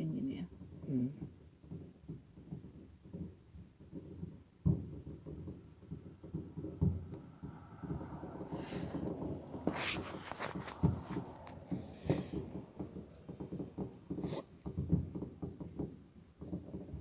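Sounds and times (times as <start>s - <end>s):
distant fireworks booming: 0.0s - 17.0s
fireworks crackling: 0.0s - 17.0s.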